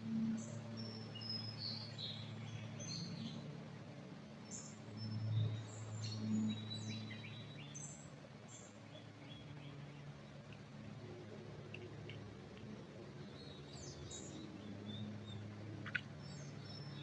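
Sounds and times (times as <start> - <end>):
small birds chirping: 0.4 - 3.5, 4.4 - 17.0.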